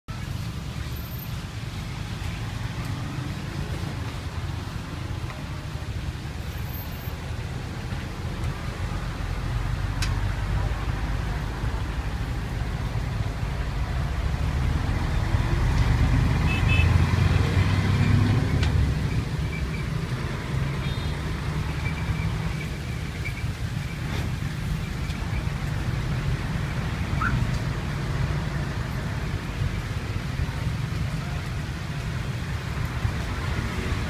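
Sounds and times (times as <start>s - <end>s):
traffic rumble: 0.1s - 34.0s.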